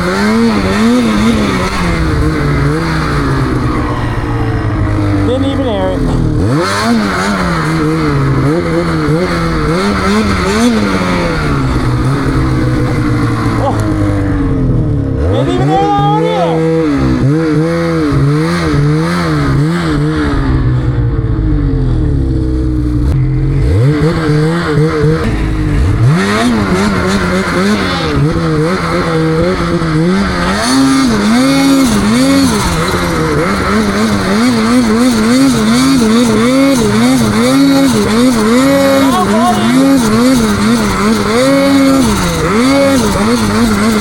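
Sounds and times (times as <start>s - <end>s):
snowmobile engine revving: 0.0s - 44.0s.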